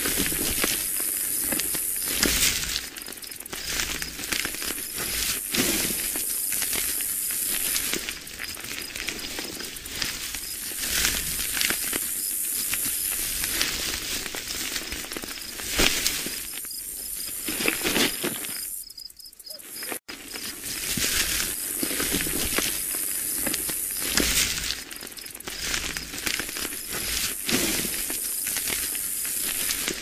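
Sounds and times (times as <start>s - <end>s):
rustling crackling noise: 0.0s - 30.0s.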